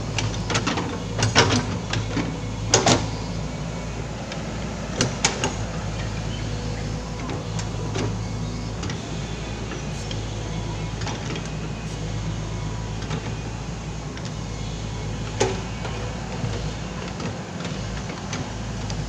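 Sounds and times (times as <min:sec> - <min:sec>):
excavator diesel engine: 0:00.0 - 0:19.0.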